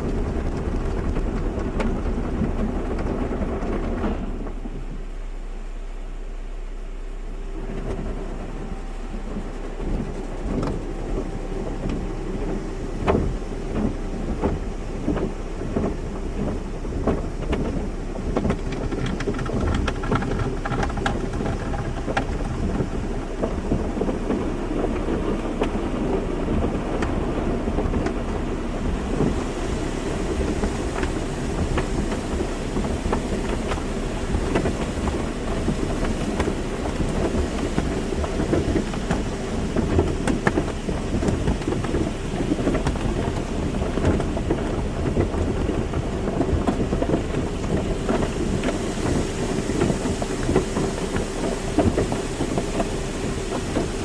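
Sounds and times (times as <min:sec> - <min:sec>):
low rumble: 0:00.0 - 0:54.0
water spraying against a car: 0:00.0 - 0:54.0.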